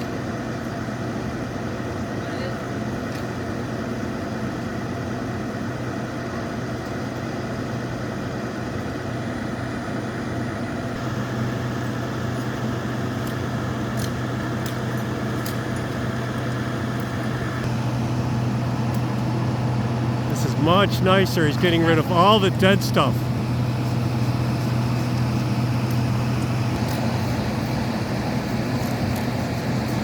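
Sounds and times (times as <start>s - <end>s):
truck engine running: 3.9s - 30.0s.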